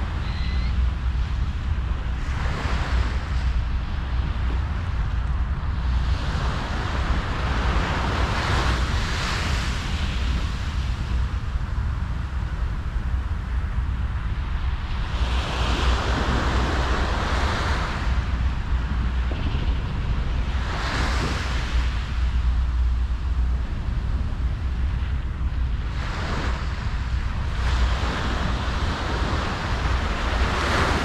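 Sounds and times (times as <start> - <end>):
ocean waves breaking on beach: 0.0 - 31.0
wind rumble on microphone: 0.0 - 31.0.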